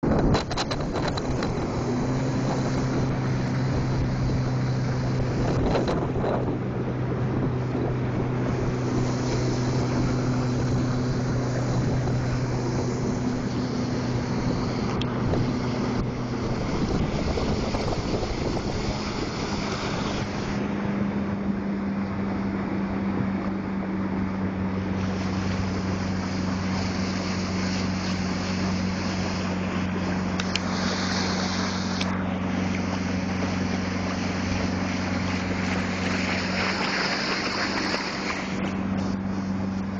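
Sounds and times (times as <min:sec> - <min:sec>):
boat engine droning: 0:00.0 - 0:39.9
wind and water rushing: 0:00.0 - 0:39.9.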